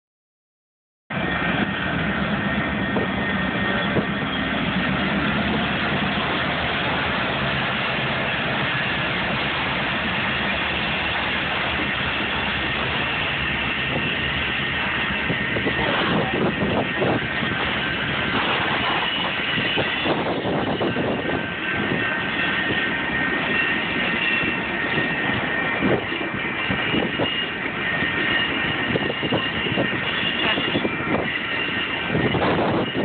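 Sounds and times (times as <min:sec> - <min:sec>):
diesel locomotive engine drone: 0:01.1 - 0:33.0
rail cars rumbling past: 0:01.1 - 0:33.0.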